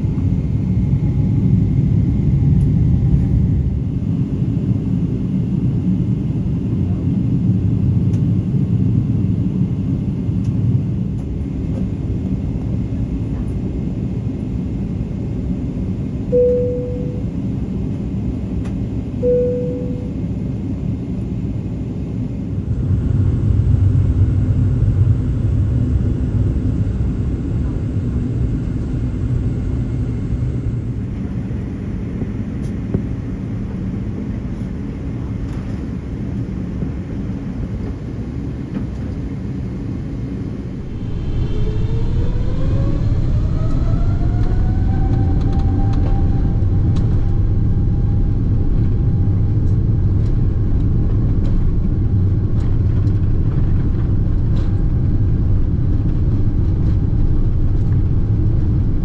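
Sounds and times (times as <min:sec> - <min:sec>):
jet engine whine: 0:00.0 - 0:59.0
jet engines rumbling: 0:00.0 - 0:59.0.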